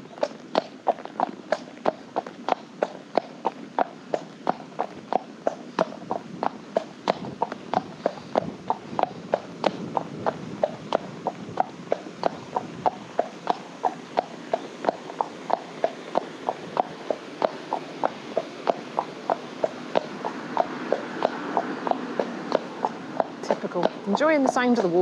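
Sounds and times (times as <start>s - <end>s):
horse hooves clip-clopping on tarmac: 0.0s - 25.0s.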